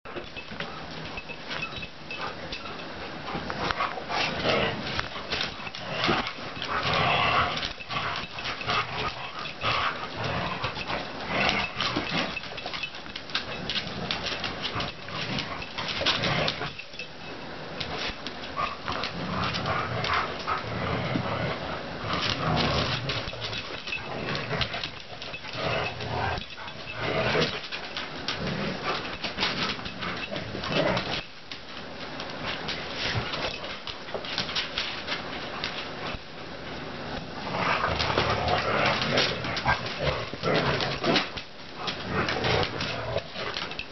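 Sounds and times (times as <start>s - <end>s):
dogs scuffling: 0.1s - 43.9s
dogs vocalizing while playing: 0.1s - 43.9s.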